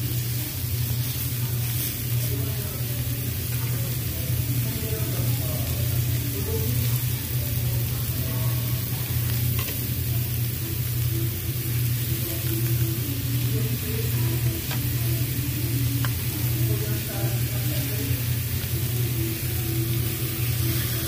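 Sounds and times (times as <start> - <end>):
food sizzling on a grill: 0.0 - 21.0.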